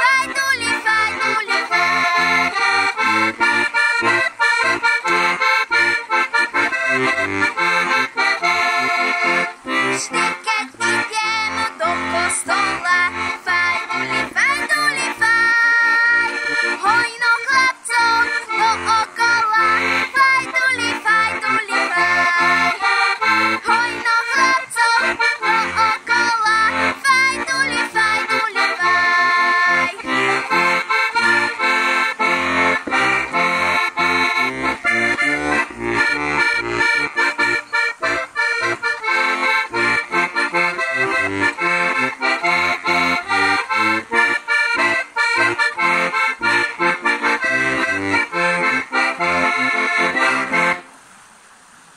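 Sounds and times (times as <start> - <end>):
button accordion folk tune: 0.0 - 50.9.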